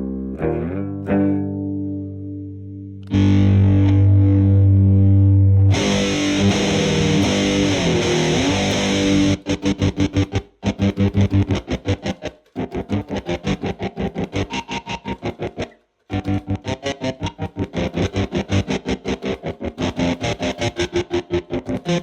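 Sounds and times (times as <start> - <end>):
distorted electric guitar: 0.0 - 22.0.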